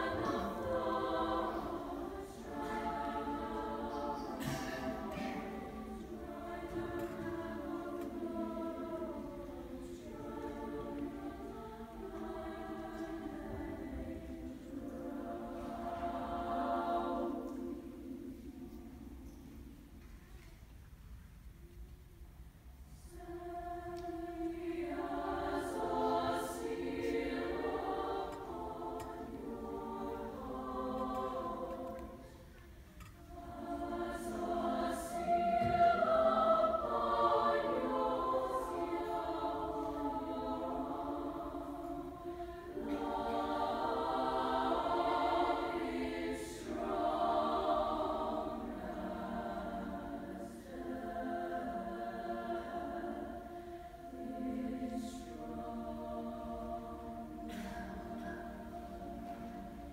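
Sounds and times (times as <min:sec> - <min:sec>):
girls' choir singing: 0:00.0 - 0:20.2, 0:22.9 - 0:59.9.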